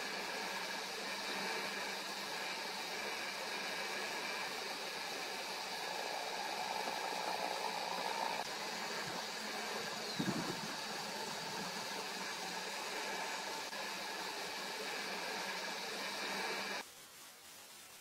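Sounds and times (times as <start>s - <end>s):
faint hum: 0.0s - 16.8s
outdoor background hiss: 0.0s - 18.0s.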